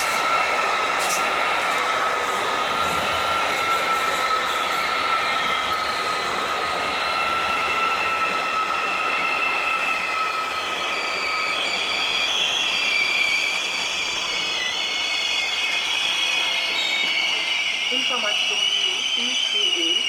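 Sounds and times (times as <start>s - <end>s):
electric train rushing: 0.0s - 20.0s
high squealing tones: 0.0s - 20.0s.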